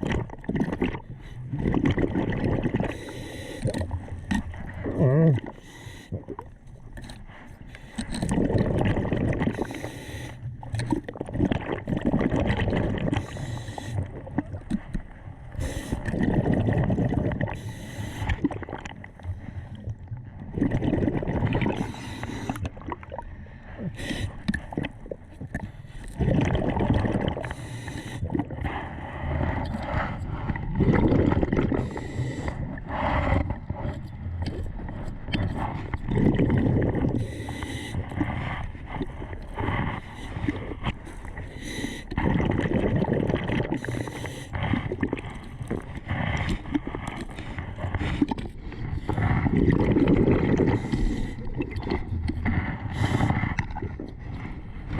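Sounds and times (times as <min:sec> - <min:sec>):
muffled underwater gurgling: 0:00.0 - 0:54.9.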